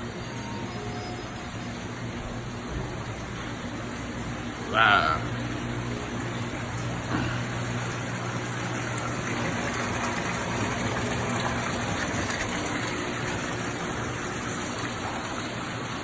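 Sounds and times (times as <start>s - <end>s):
low steady hum: 0.0s - 16.0s
running splashing water: 1.2s - 16.0s.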